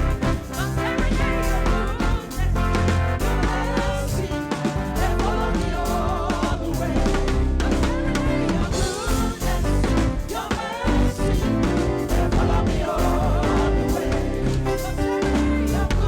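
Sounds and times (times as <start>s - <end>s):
band with drums and bass: 0.0s - 16.0s.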